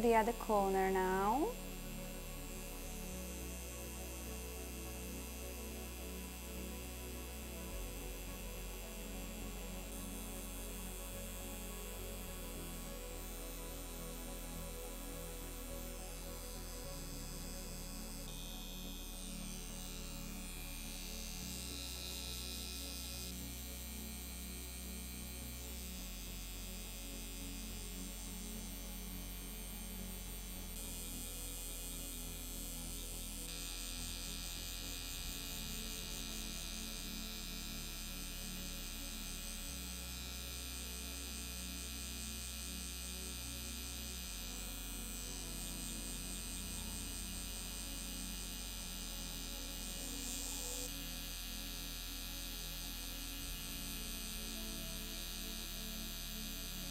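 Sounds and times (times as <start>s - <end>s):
tattoo pen humming: 0.0s - 56.9s.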